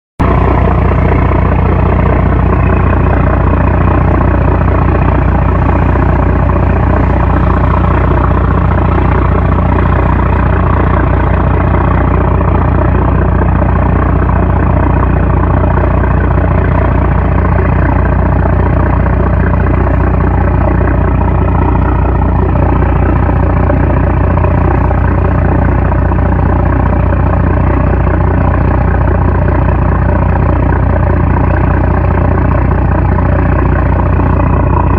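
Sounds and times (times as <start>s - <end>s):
diesel engine droning: 0.2s - 34.9s.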